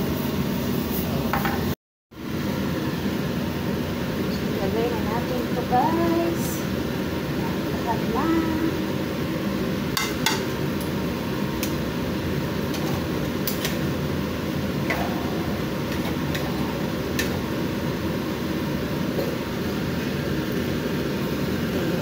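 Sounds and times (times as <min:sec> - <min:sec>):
steady fan whir: 0:00.0 - 0:22.0.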